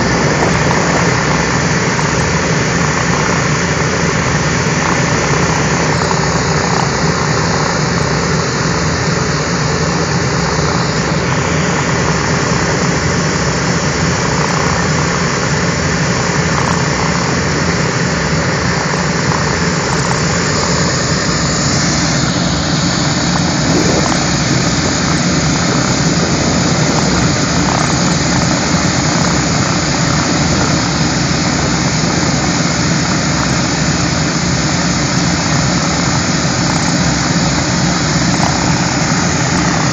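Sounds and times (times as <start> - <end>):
piston aircraft engines running: 0.0 - 39.9.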